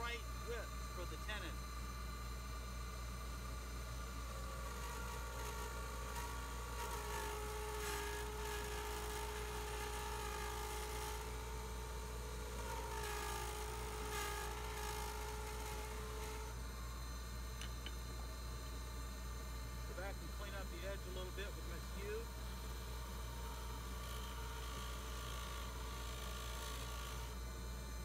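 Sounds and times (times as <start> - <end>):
lathe motor whine: 0.0 - 28.0.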